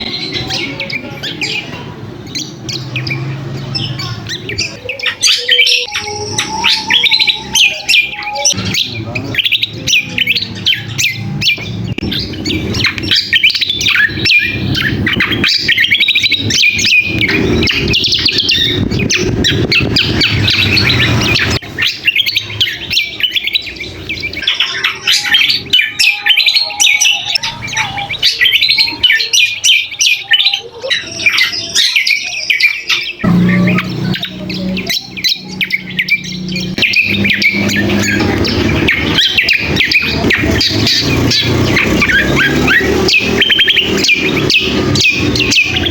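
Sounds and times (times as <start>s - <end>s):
songbird chattering twitters: 0.0s - 45.9s.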